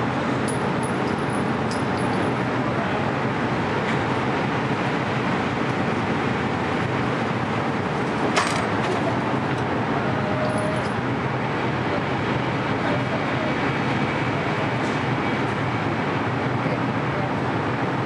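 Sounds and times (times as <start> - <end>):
ventilation noise: 0.0 - 18.0.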